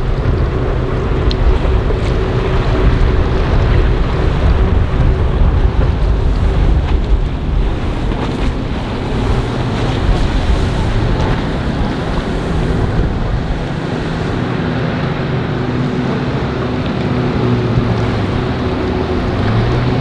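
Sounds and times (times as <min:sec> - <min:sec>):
motorboat engine droning: 0:00.0 - 0:20.0
waves washing: 0:00.0 - 0:20.0
wind buffeting microphone: 0:00.0 - 0:20.0.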